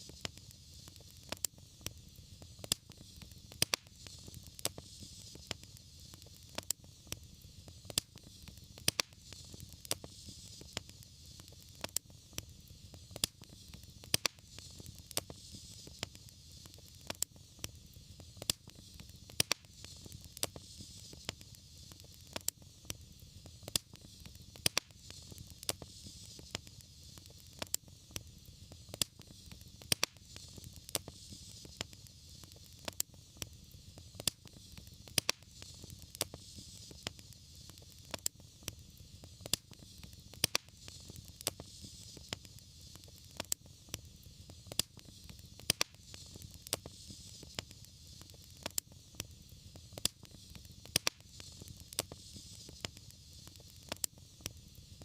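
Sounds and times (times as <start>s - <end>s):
fire low rumble and hiss: 0.0s - 55.0s
wood fire crackling and popping: 0.0s - 55.0s.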